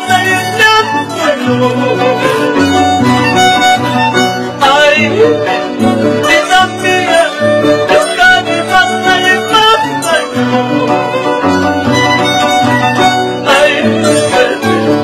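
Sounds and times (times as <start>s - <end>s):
guitar: 0.0s - 15.0s
violin melody: 0.0s - 15.0s.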